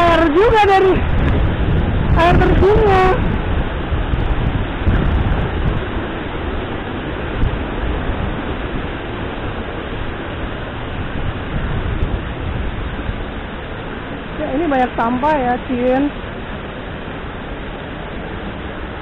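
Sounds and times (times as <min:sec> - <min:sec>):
falling rain: 0:00.0 - 0:19.0
waterfall rushing: 0:00.0 - 0:19.0.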